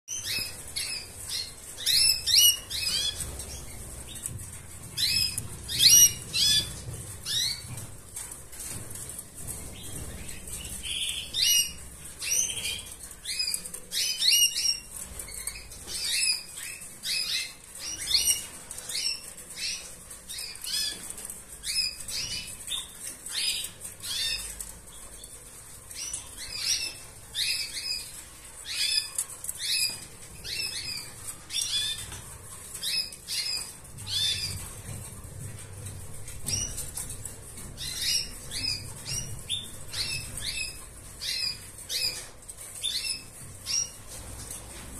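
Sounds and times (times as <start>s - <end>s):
canary chirping: 0.1s - 44.9s.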